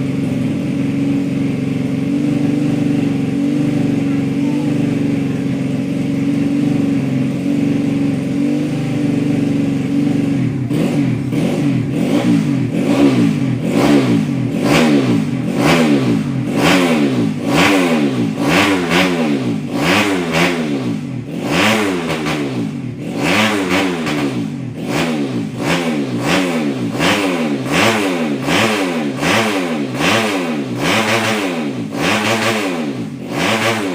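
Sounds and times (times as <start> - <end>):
motorcycle engine idling: 0.0 - 33.9
motorcycle engine revving: 0.0 - 33.9.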